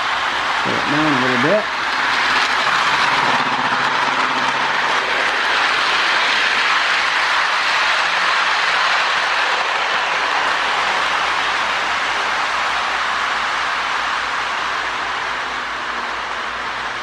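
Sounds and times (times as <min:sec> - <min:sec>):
toy trains whirring on metal rails: 0:00.0 - 0:17.0.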